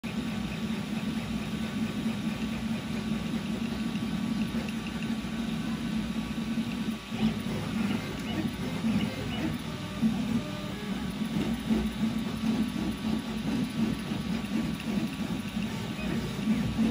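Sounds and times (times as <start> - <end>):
printer stepper motors buzzing: 0.0 - 16.9.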